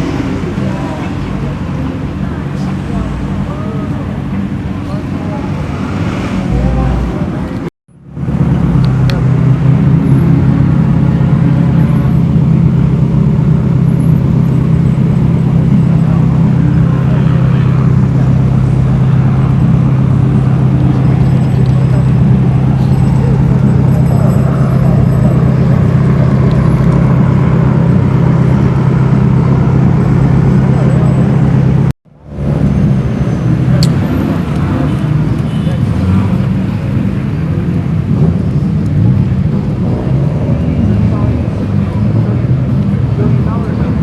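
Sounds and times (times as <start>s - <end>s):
faint voices: 0.0s - 7.7s, 14.6s - 31.9s, 33.3s - 44.0s
car engine idling: 0.0s - 44.0s.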